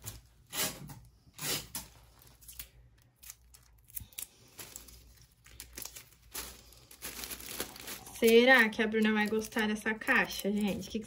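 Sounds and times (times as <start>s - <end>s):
wrapping paper and plastic rustling: 0.0s - 11.0s.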